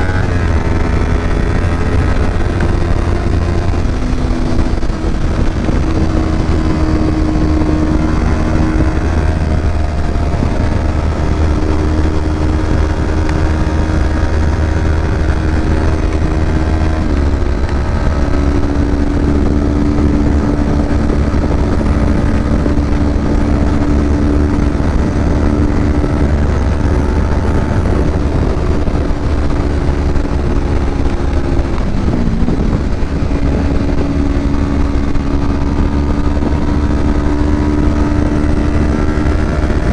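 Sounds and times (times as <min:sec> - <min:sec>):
motorcycle engine on the road: 0:00.0 - 0:39.9.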